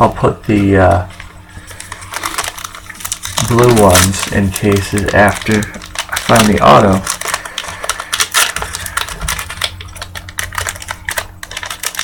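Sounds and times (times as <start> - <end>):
trading cards being shuffled: 0.5 - 12.0.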